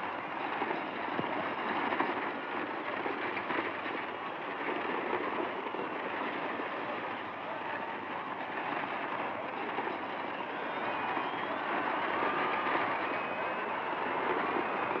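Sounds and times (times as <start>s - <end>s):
crowd cheering: 0.0s - 15.0s
galloping hooves: 0.0s - 15.0s
rumbling coach wheels: 0.0s - 15.0s.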